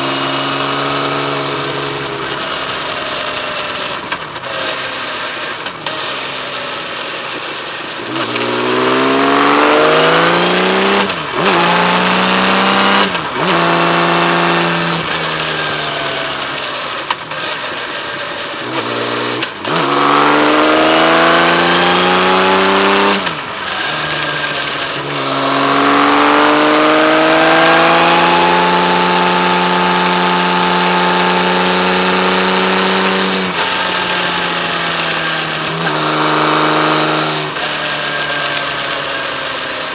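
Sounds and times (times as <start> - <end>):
motorcycle engine pulling through gears: 0.0 - 39.9.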